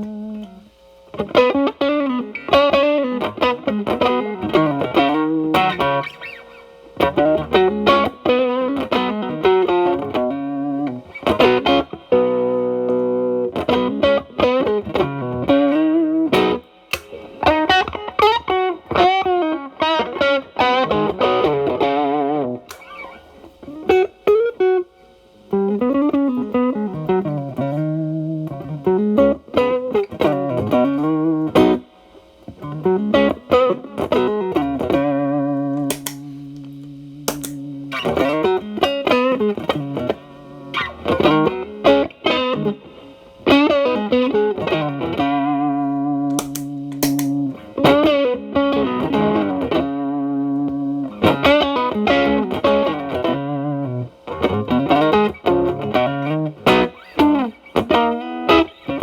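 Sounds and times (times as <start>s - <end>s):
overdriven electric guitar blues lead: 0.0s - 59.0s.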